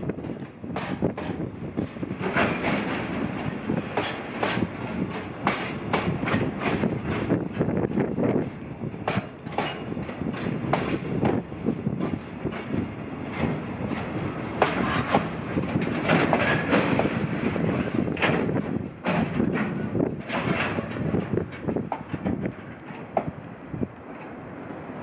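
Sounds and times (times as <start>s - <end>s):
train wheels clattering over rail joints: 0.0s - 24.6s
train rumble: 0.0s - 25.0s.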